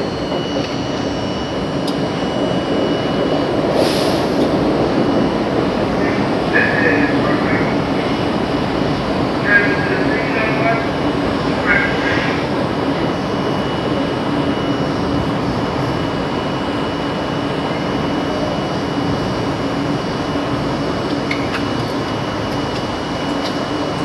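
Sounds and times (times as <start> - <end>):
train rumbling on track: 0.0 - 24.0.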